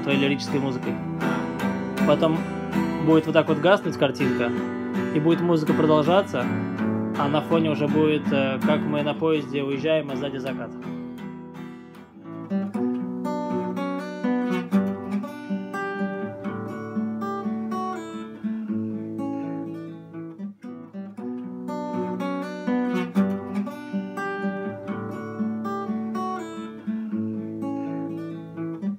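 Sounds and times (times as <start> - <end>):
acoustic guitar playing: 0.0 - 28.9.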